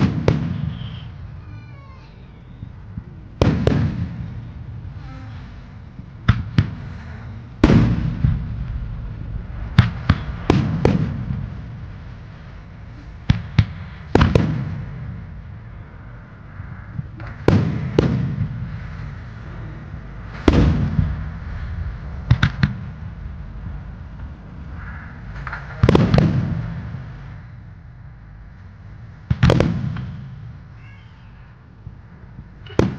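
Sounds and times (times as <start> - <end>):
firework shells booming: 0.0 - 1.4, 2.4 - 32.9.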